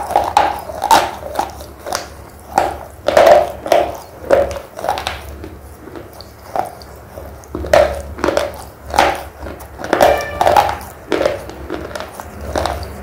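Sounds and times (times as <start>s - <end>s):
slate pencil being chewed: 0.0s - 13.0s.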